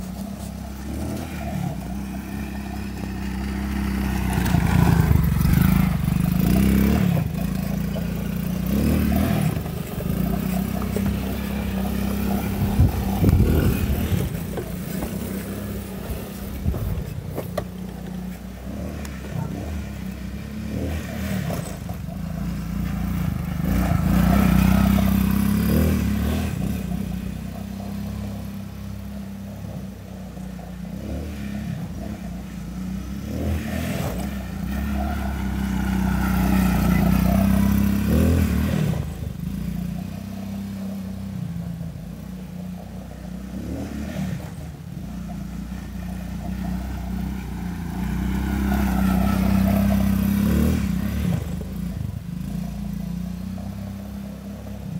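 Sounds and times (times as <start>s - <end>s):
quad engine passing by: 0.0s - 54.9s.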